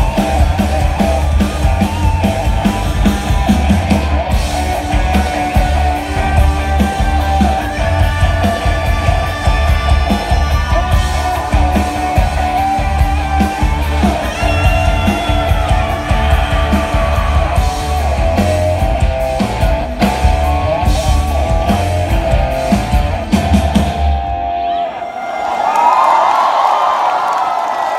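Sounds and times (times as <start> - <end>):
rock band playing live: 0.0 - 25.3.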